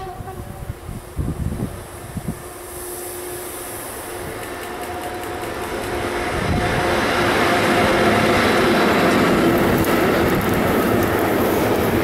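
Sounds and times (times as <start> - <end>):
electric locomotive humming: 0.0 - 12.0
train wagons rolling on rails: 0.0 - 12.0.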